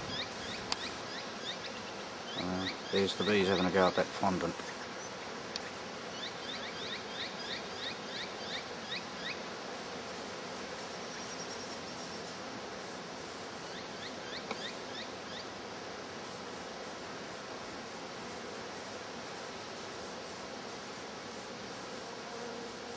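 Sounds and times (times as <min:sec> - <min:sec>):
honeybees humming: 0:00.0 - 0:22.9.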